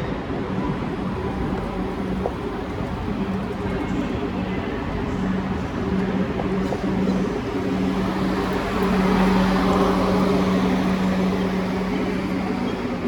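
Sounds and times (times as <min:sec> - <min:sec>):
electric train humming: 0:00.2 - 0:13.0.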